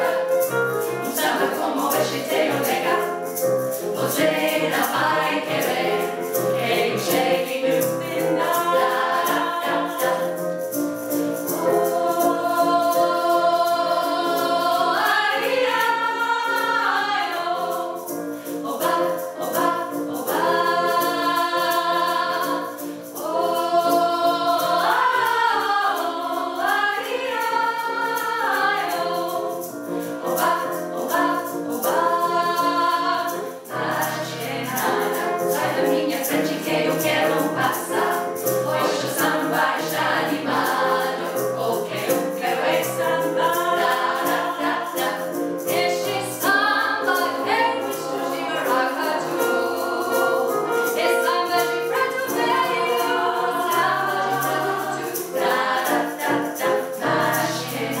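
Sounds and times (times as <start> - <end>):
women's choir singing in harmony: 0.0 - 58.0.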